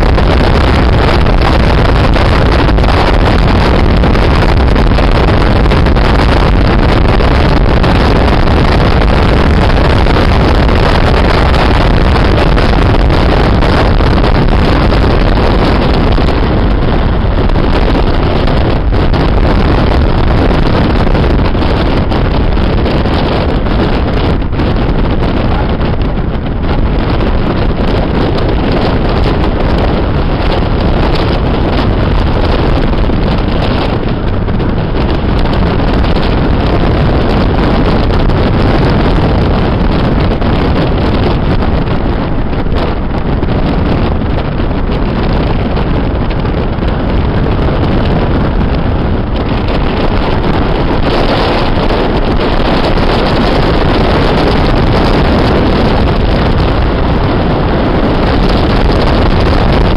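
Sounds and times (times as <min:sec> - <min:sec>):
car engine and tyre noise: 0:00.0 - 0:59.9
wind buffeting microphone: 0:00.0 - 0:59.9.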